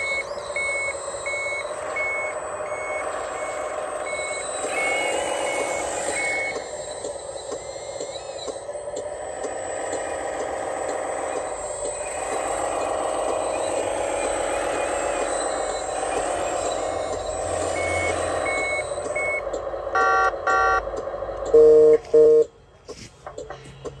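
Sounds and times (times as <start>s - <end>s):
high reversing beeps: 0.0s - 22.7s
toy wheel loader drive noise: 0.0s - 24.0s.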